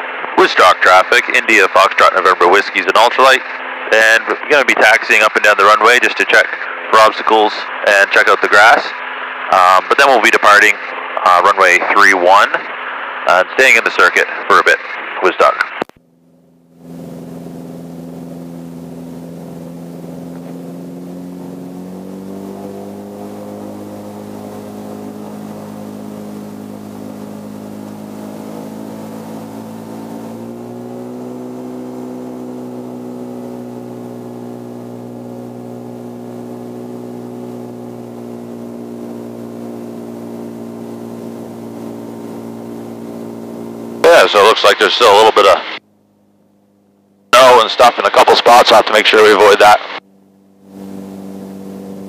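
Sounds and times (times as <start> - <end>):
light aircraft engine and propeller: 0.0 - 52.0.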